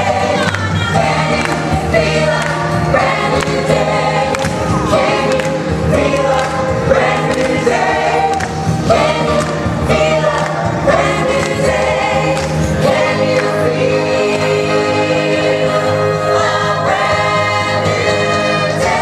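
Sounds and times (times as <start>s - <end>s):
amplified instrumental music: 0.0s - 19.0s.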